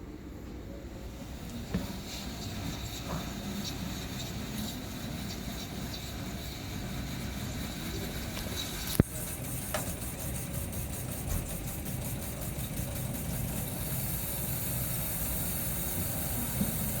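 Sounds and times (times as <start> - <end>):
air conditioner humming: 0.0 - 17.0
hiss: 1.7 - 17.0.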